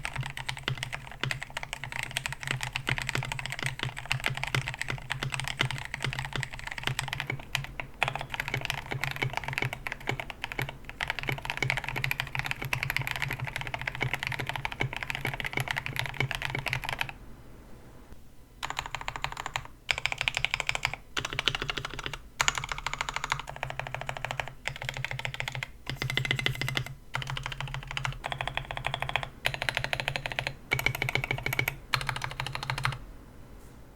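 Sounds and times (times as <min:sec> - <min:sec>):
mechanical keyboard typing: 0:00.0 - 0:17.2, 0:18.6 - 0:33.0.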